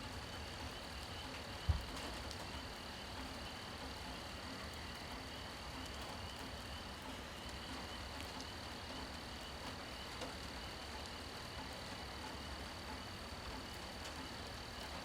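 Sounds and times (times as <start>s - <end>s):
steady rain falling: 0.0s - 15.0s
raindrops ticking: 0.7s - 15.0s.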